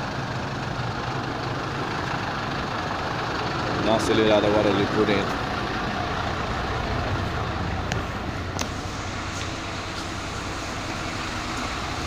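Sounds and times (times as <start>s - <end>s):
diesel bus engines idling: 0.0s - 12.0s.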